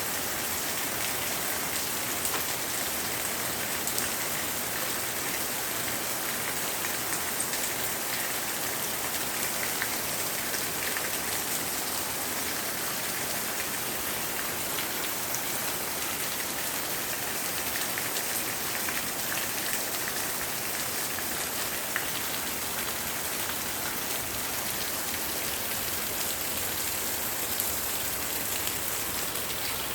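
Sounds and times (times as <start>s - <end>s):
heavy rain falling: 0.1s - 29.9s.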